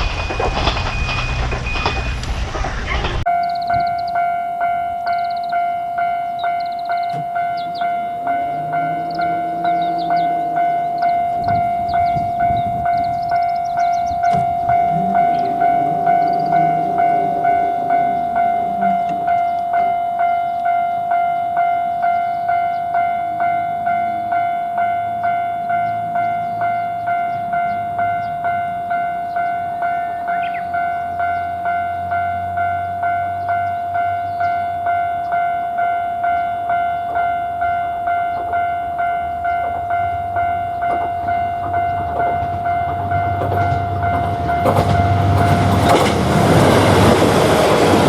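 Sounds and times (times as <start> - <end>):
level-crossing warning bell: 0.0 - 48.0
train rumbling past: 0.0 - 48.0.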